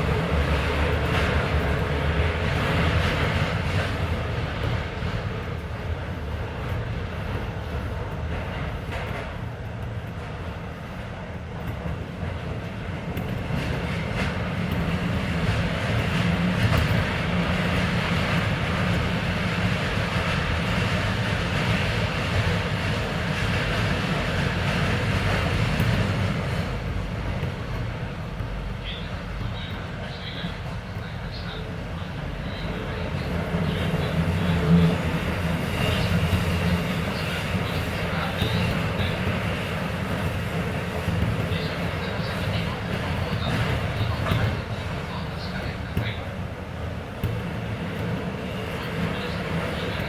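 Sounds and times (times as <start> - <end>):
train rumble under car: 0.0 - 50.0
train wheels on rails: 0.0 - 50.0.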